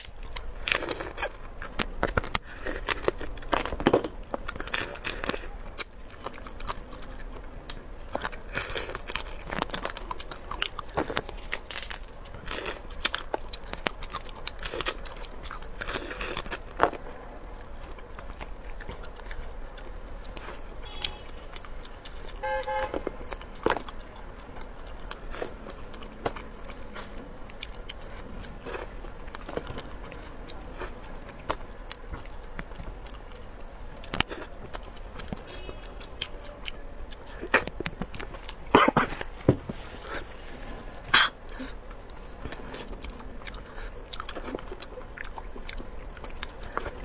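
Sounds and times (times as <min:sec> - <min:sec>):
seafood shells cracking: 0:00.0 - 0:38.7
chewing: 0:00.0 - 0:47.0.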